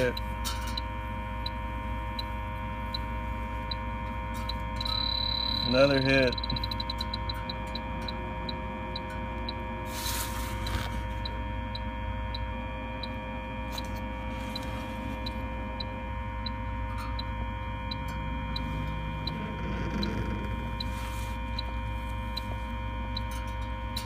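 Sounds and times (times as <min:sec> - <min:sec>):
leak detector ticking: 0:00.0 - 0:24.0
steady hum: 0:00.0 - 0:24.0.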